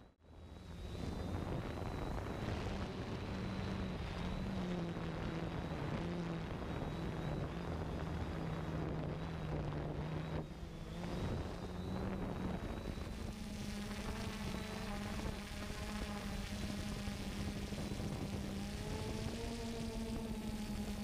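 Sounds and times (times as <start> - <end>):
drone motors humming: 0.3 - 21.0.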